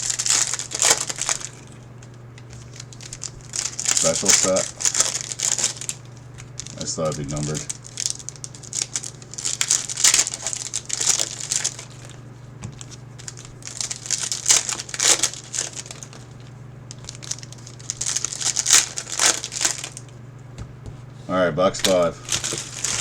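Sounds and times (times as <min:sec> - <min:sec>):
plastic wrapping crinkling and tearing: 0:00.0 - 0:20.1, 0:21.8 - 0:23.0
steady low hum: 0:00.0 - 0:23.0.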